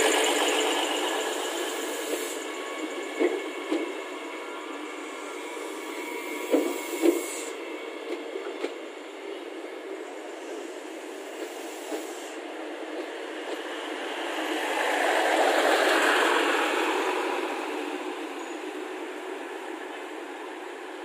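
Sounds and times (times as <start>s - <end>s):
train cars rolling rumble: 0.0s - 21.0s.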